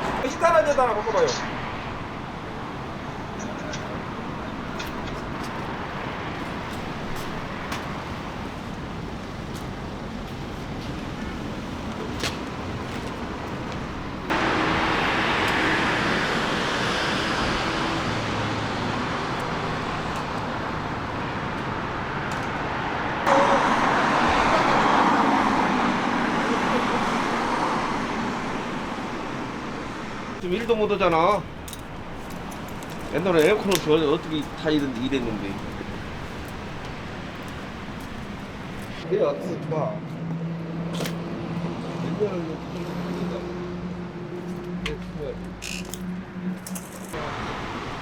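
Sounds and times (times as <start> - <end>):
vehicle and road noise: 0.0 - 48.0.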